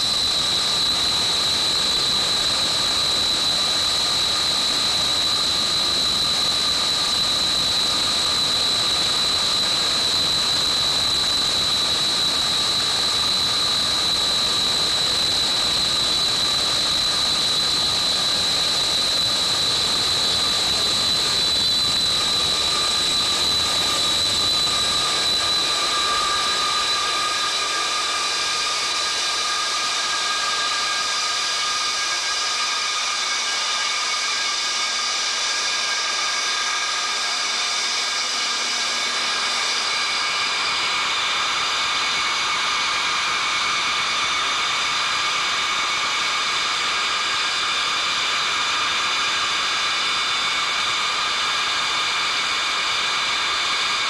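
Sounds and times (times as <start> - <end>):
high whining engine tones: 0.0 - 54.0
jet engines running: 0.0 - 54.0.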